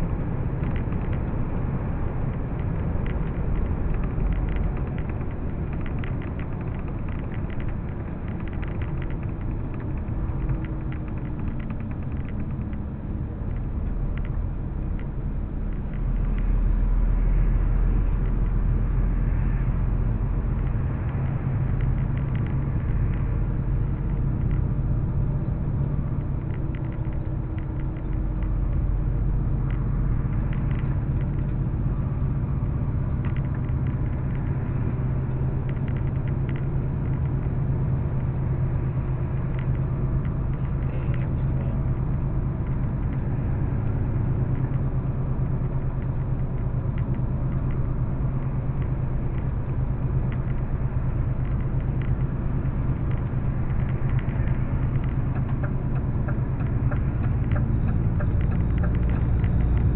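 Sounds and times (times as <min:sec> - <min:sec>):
vehicle engine and tyre rumble: 0:00.0 - 0:59.9.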